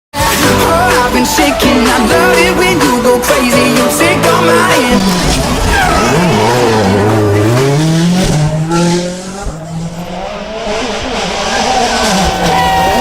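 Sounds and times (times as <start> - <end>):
rally car engine accelerating: 0.2 - 13.0.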